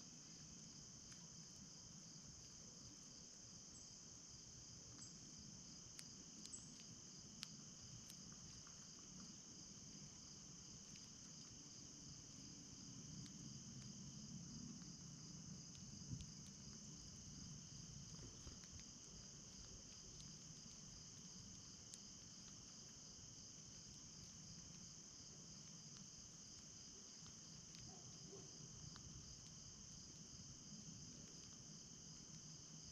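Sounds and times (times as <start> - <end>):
insects trilling: 0.0 - 32.9.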